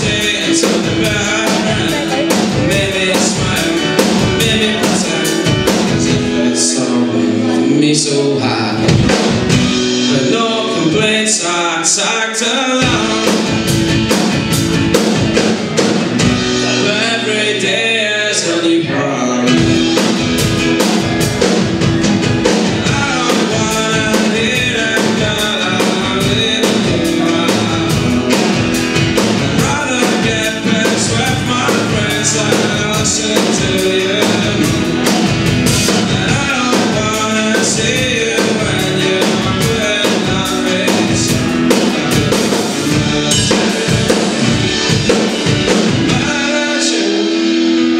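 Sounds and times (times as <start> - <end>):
drum kit beat: 0.0 - 6.8, 8.8 - 11.4, 12.8 - 17.7, 19.4 - 47.9
strummed acoustic guitar: 0.0 - 47.9.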